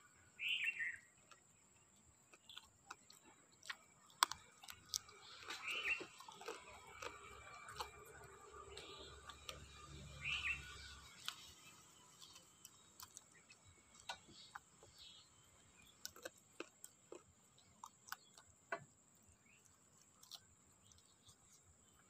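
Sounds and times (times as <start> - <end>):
person chewing and sucking: 0.0 - 22.0.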